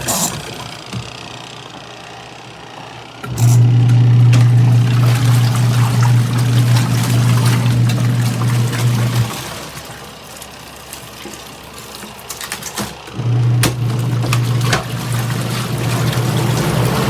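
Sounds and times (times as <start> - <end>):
washing machine motor humming: 0.0 - 17.0
water swishing in tub: 3.3 - 17.0.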